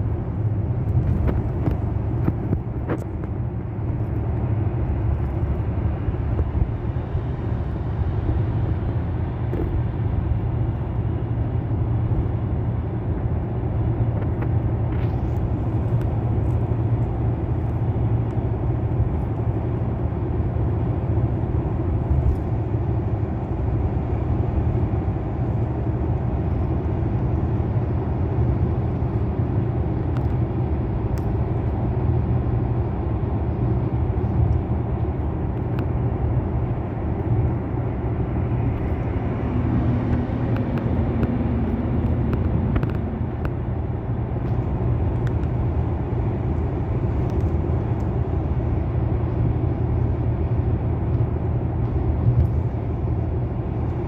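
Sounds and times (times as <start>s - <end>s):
car interior road rumble: 0.0s - 54.0s.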